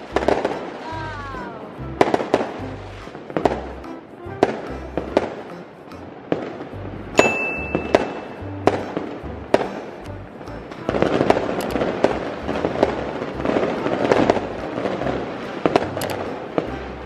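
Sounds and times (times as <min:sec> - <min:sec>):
background music with bass: 0:00.0 - 0:17.0
fireworks banging: 0:00.0 - 0:17.0.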